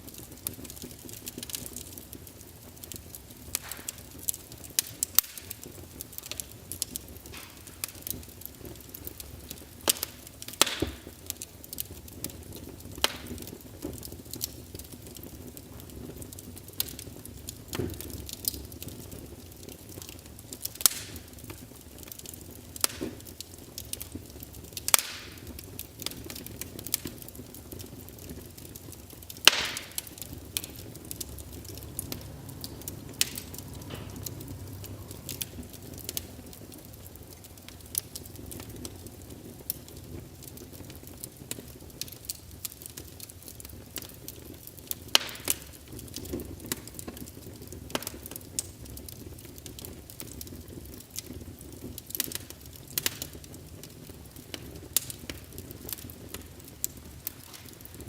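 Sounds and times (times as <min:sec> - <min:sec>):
fire crackling in a fireplace: 0:00.0 - 0:58.0.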